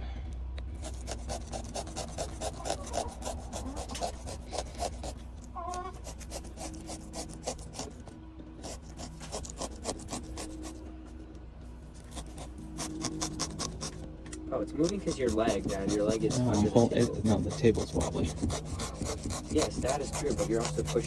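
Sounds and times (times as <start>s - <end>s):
tool scraping pumpkin flesh: 0.8s - 8.0s, 8.6s - 10.8s, 12.0s - 14.0s, 14.7s - 21.0s.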